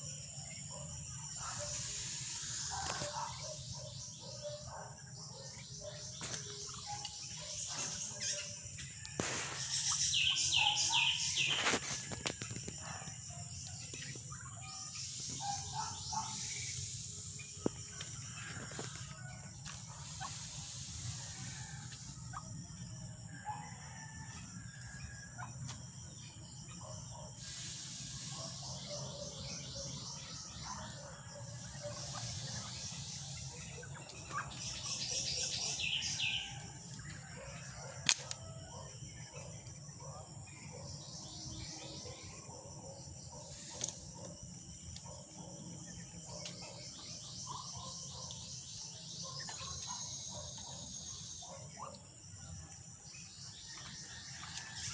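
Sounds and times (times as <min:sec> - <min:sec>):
birds chirping: 0:00.0 - 0:21.8, 0:22.4 - 0:52.2
insect drone: 0:00.0 - 0:54.9.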